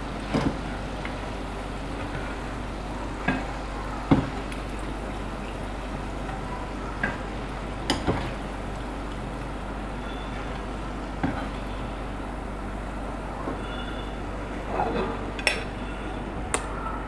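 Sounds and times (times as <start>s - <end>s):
doughnuts sizzling in oil: 0.0s - 17.0s.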